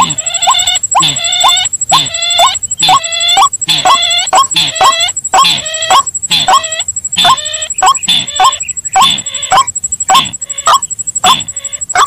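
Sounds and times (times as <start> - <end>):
rail bird calls: 0.0 - 12.0.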